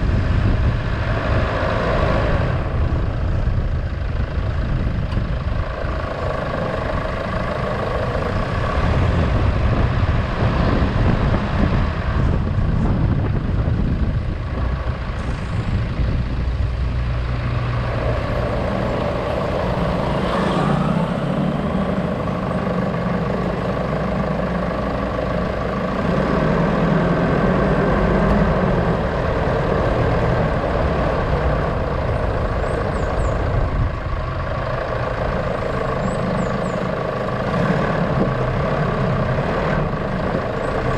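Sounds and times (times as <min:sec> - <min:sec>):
road and traffic noise: 0:00.0 - 0:40.9
vehicle engine running: 0:00.0 - 0:40.9.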